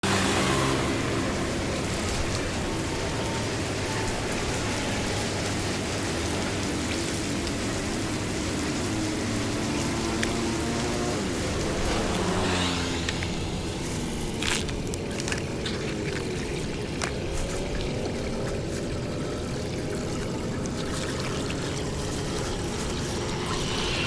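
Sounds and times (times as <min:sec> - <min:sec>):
engine hum: 0:00.0 - 0:24.0
floodwater pouring: 0:00.0 - 0:24.0.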